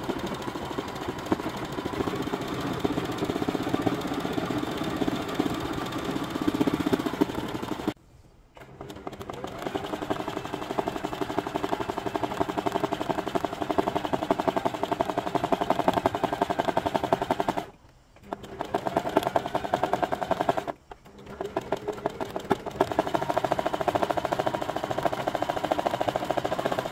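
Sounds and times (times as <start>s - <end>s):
sewing machine running: 0.0s - 8.0s, 8.6s - 26.9s.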